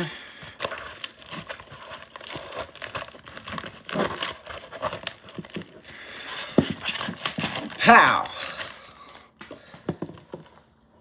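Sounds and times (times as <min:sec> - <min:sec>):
plastic wrap rustling and crinkling: 0:00.0 - 0:11.0.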